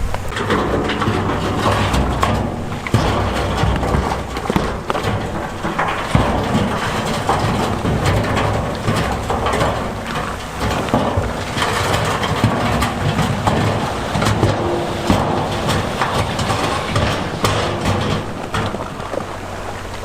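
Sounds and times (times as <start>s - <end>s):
diesel engine running: 0.0s - 20.0s
large stones tumbling and grinding: 0.0s - 20.0s.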